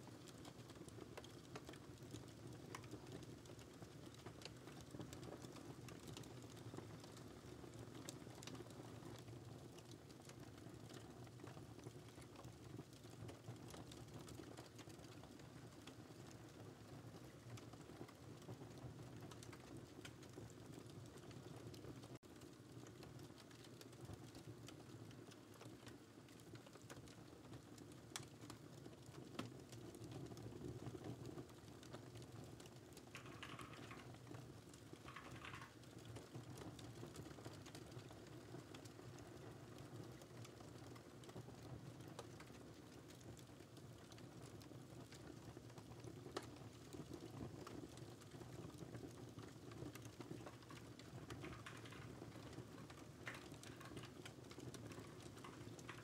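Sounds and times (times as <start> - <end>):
crackling fire: 0.0 - 56.0.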